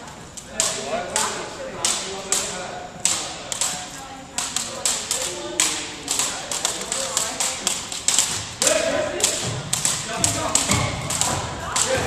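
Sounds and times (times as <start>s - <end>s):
faint voices chattering: 0.0s - 12.0s
jump ropes slapping wooden floor: 0.5s - 12.0s.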